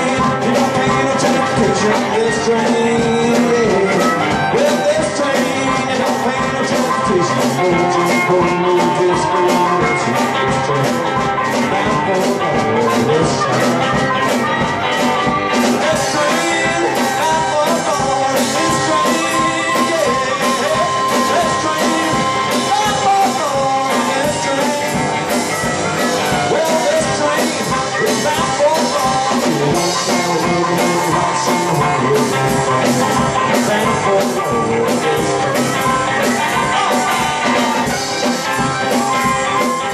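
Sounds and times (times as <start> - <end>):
drum kit: 0.0 - 39.9
electric guitar: 0.0 - 39.9
harmonica: 0.0 - 39.9.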